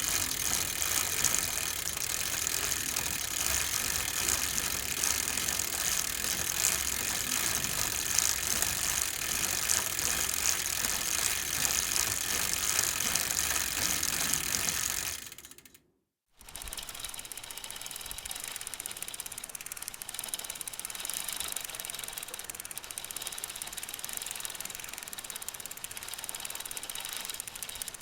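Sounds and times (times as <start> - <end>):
bicycle chain and freewheel clicking: 0.0 - 15.8, 16.4 - 28.0.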